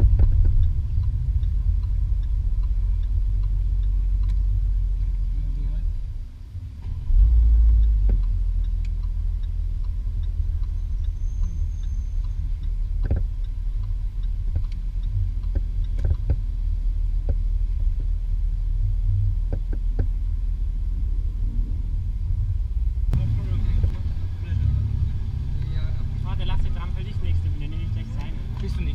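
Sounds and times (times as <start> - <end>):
car engine low rumble: 0.0 - 28.9.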